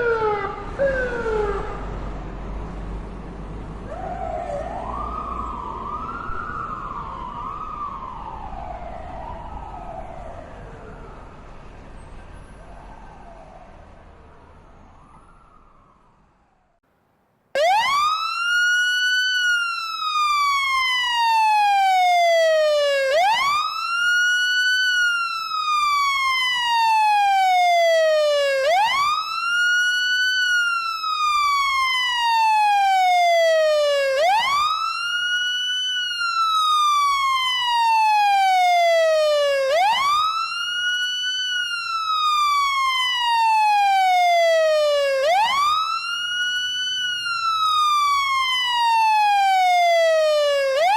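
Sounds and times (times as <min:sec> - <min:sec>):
fire truck siren wailing: 0:00.0 - 0:16.8, 0:17.6 - 0:50.9.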